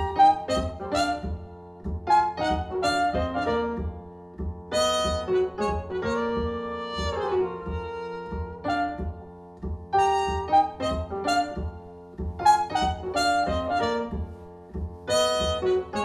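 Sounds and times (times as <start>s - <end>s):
double bass: 0.0s - 16.0s
jazz horn lead: 0.0s - 16.0s.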